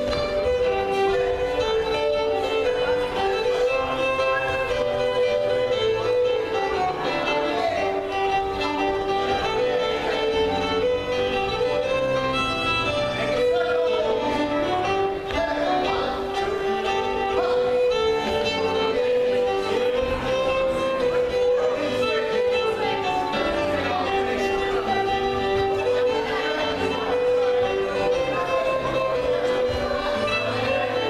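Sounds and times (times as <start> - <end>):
fiddle playing dance tune: 0.0 - 31.0
keyboard accompaniment: 0.0 - 31.0.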